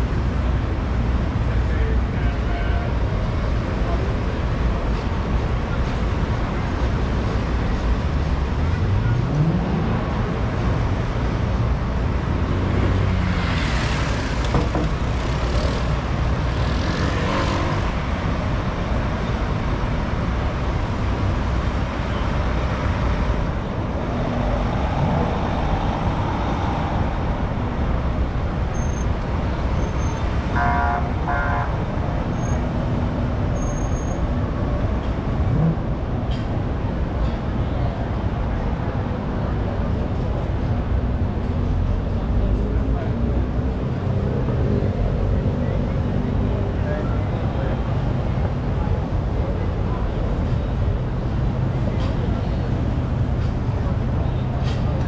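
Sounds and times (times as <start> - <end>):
city street traffic: 0.0 - 55.0.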